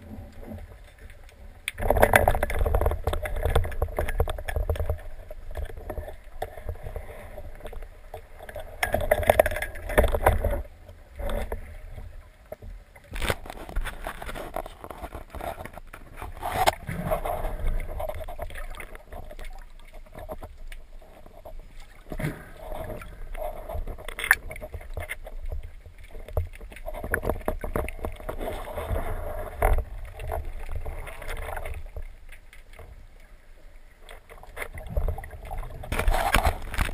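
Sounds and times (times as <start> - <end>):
muffled underwater water movement: 0.0 - 36.9.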